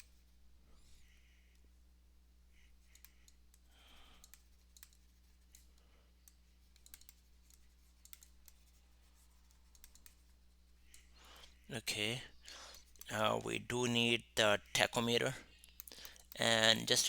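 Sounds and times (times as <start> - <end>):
faint irregular clicks: 0.0 - 1.8, 2.5 - 13.7, 14.4 - 17.0
low electrical hum: 0.0 - 17.0.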